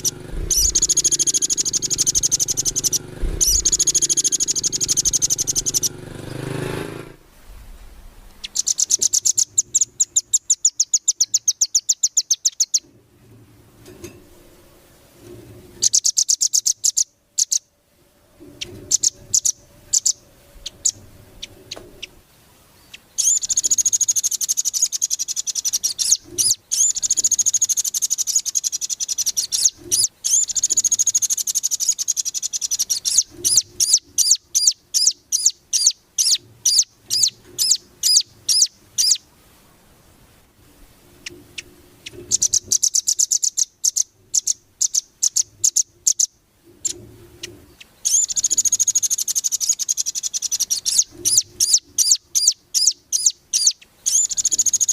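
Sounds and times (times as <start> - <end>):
songbird singing: 0.0 - 7.2, 8.2 - 13.1, 15.2 - 39.4, 41.2 - 54.9.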